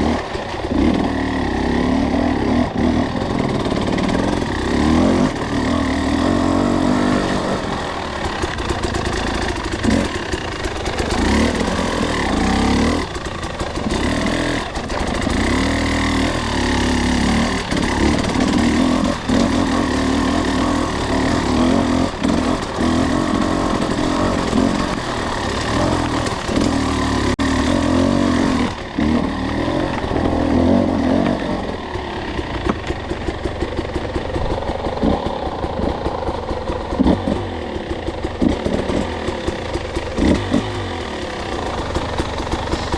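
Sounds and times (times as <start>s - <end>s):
dirt bike engine: 0.0s - 42.9s.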